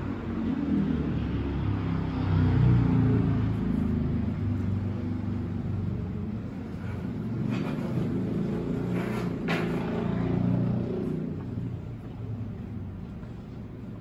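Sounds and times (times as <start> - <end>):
low engine rumble: 2.8 - 14.0.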